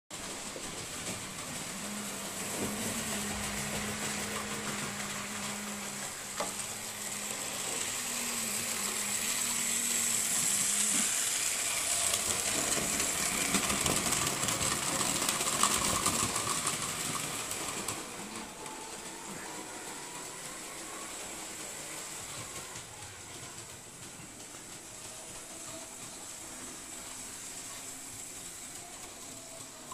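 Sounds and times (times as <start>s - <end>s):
model train wheels and motors hissing: 0.1s - 29.9s.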